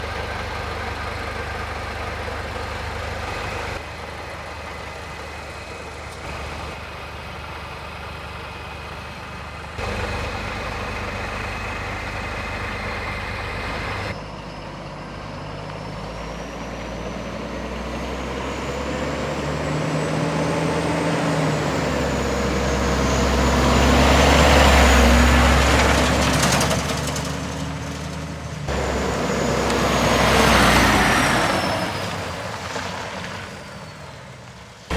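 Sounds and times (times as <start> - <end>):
truck diesel engine: 0.0 - 34.9.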